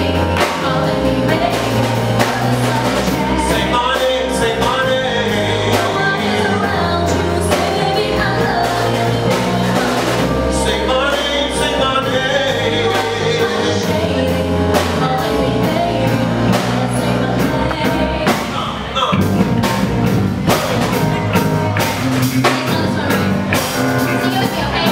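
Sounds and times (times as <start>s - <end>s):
woman singing: 0.0s - 18.6s, 22.4s - 24.9s
drum kit: 0.0s - 24.9s
electric bass guitar: 0.0s - 24.9s
keyboard: 0.0s - 24.9s.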